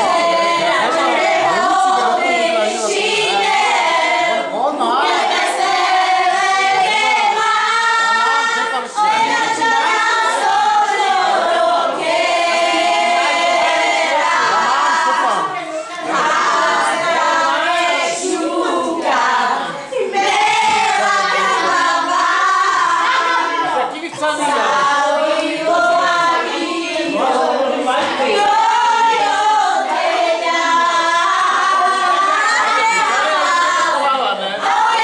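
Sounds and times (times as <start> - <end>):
women singing together: 0.0 - 35.0.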